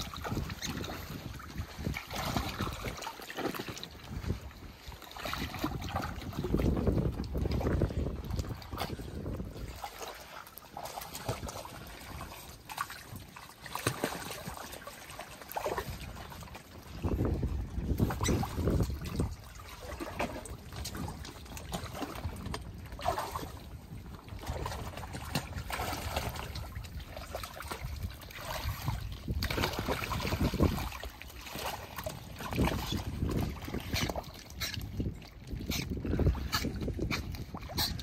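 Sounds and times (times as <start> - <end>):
water splashing and sloshing: 0.0 - 38.0.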